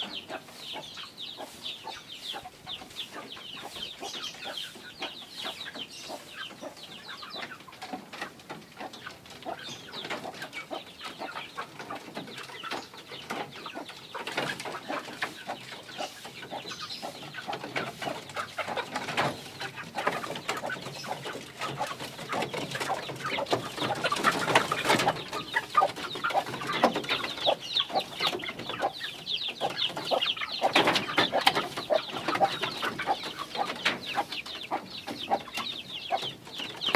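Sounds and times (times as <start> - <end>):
chickens clucking: 0.0 - 36.9.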